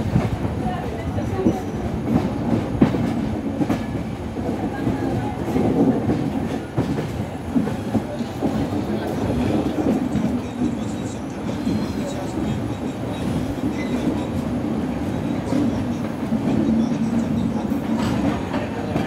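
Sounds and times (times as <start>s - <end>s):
train wheel and rail rumble: 0.0s - 19.0s.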